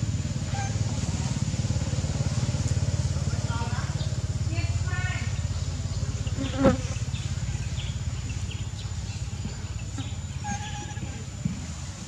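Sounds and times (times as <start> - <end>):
low pulsing buzzing drone: 0.0 - 12.0.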